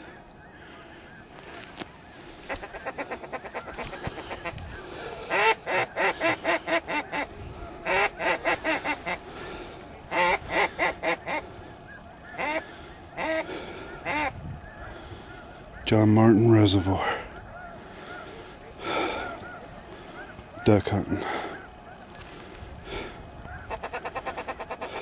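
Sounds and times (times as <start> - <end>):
ducks quacking: 0.0 - 25.0
geese honking: 0.0 - 25.0.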